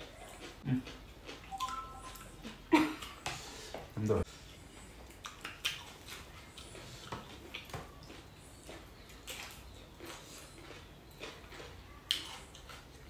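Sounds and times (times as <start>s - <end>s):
chewing: 0.0s - 3.2s, 4.3s - 13.0s.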